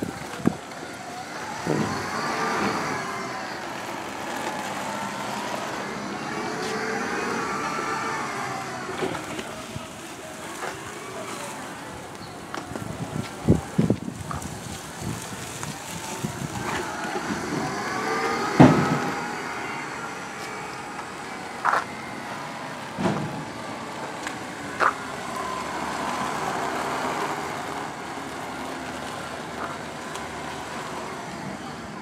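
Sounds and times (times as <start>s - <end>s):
electric wheelchair motors whining: 0.0s - 32.0s.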